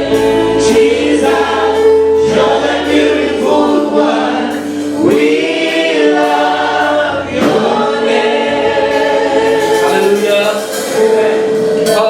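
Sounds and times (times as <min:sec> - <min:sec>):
congregation singing gospel song: 0:00.0 - 0:12.0.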